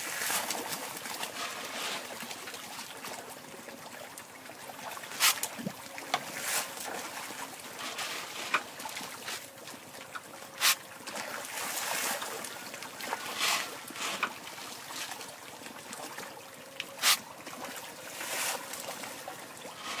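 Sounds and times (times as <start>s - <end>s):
fish splashing at water surface: 0.0s - 20.0s.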